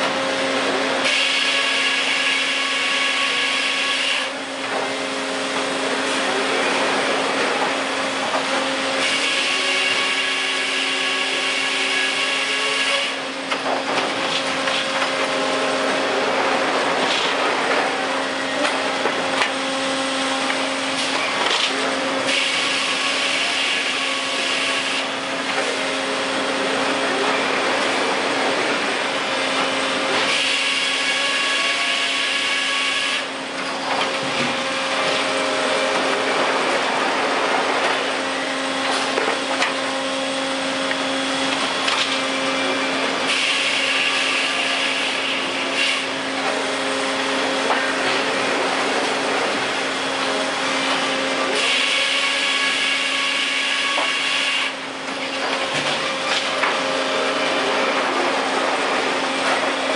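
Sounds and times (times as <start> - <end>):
circle saws humming: 0.0 - 59.9
saw cutting through log: 1.0 - 13.3, 19.6 - 33.4, 34.5 - 59.9.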